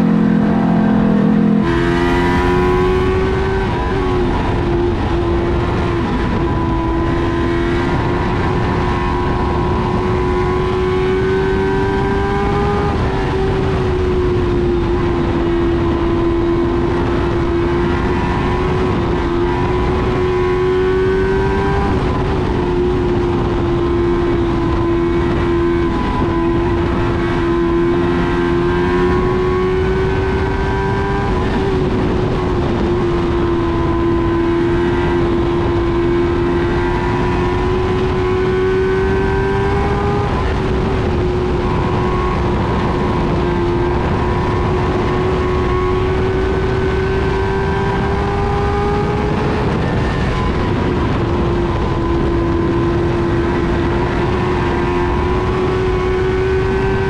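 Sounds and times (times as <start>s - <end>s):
other cars' engines: 0.0s - 57.0s
race car engine at high revs: 0.0s - 57.0s.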